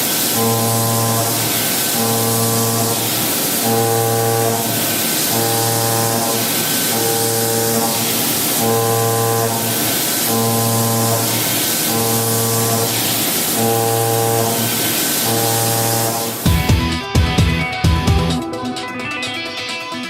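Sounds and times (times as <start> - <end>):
steady hiss: 0.0 - 16.5.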